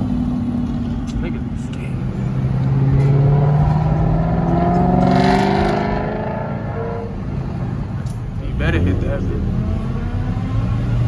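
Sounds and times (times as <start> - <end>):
car engine accelerating: 2.0 - 11.0.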